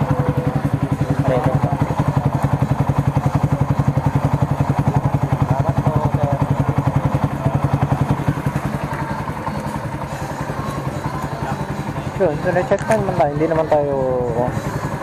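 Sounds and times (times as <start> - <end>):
motorcycle idling: 0.0 - 15.0.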